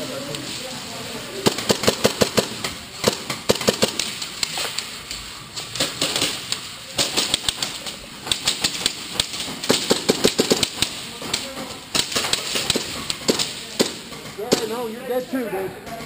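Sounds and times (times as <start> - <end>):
airsoft guns firing: 1.4 - 5.0, 5.6 - 15.0.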